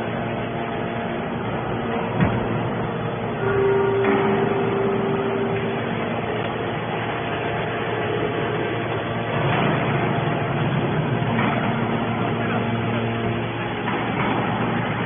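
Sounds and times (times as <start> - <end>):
hydraulic baler mechanical drone: 0.0 - 15.0.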